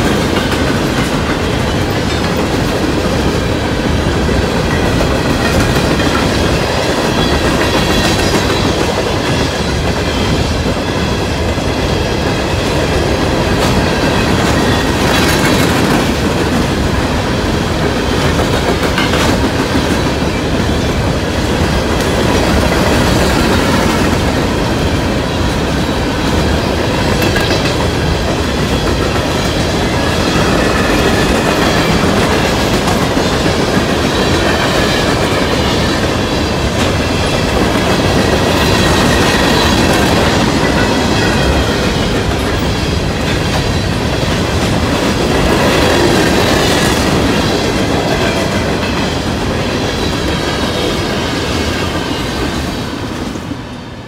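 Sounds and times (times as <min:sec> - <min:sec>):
steel wheels clattering on rails: 0:00.0 - 0:53.5
freight train rumbling past: 0:00.0 - 0:54.0.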